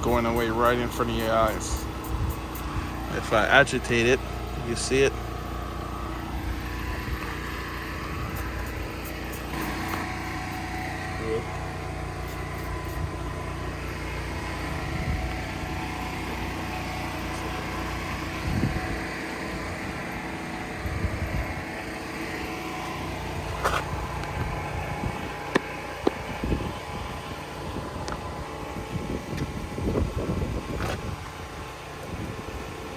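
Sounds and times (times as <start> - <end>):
engine droning: 0.0 - 32.9.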